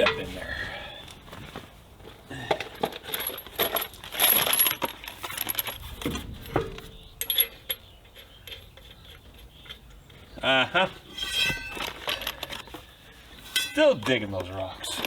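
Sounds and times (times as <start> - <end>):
metal wheel clinking and scraping: 0.0 - 0.6, 2.6 - 10.2, 10.9 - 15.0.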